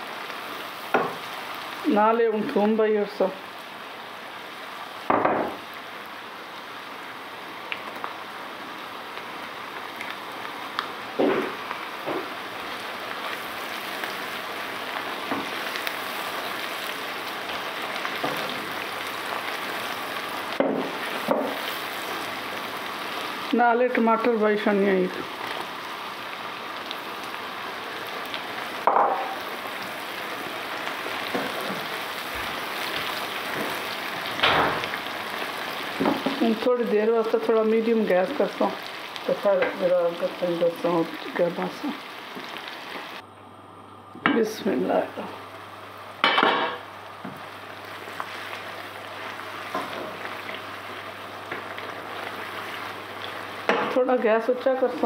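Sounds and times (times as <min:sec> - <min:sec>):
onions and tomatoes sizzling in oil: 0:00.0 - 0:55.0.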